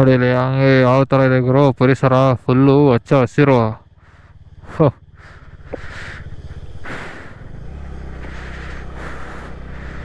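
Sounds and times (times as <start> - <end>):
scooter engine running: 0.1 - 10.0.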